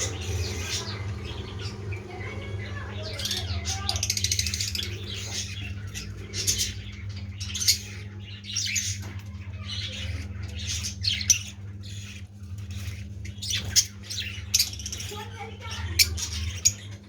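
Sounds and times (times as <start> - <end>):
lovebirds squawking and chattering: 0.0 - 17.0.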